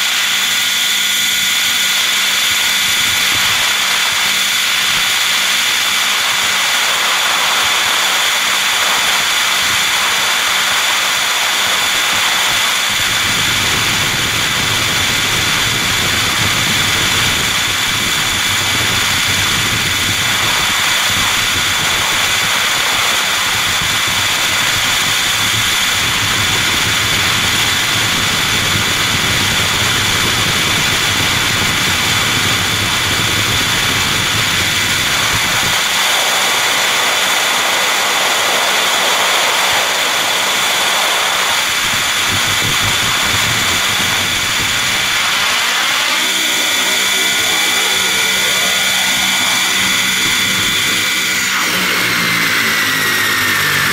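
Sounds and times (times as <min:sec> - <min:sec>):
high motor whine: 0:00.0 - 0:53.9
rotors rushing: 0:01.6 - 0:53.9.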